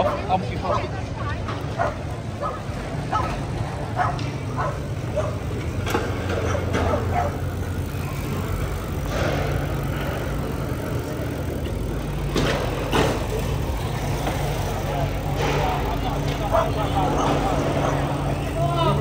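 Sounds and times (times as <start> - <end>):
rumble of passing vehicles: 0.0 - 19.0.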